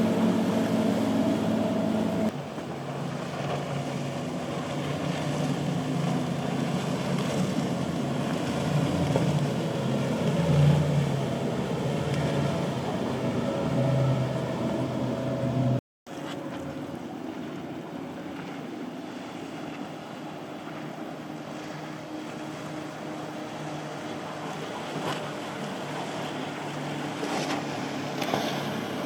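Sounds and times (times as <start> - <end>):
motorboat engines running: 0.0 - 29.0
wind: 0.0 - 29.0.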